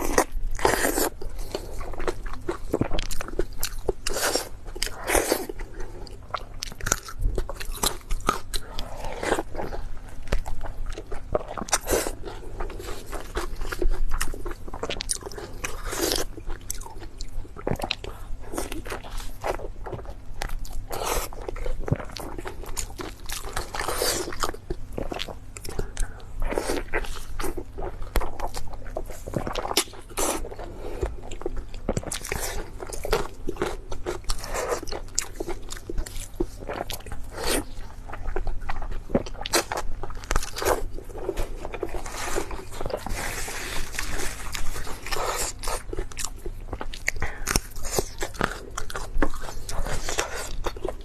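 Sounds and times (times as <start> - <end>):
crunchy chewing of food: 0.0 - 51.0.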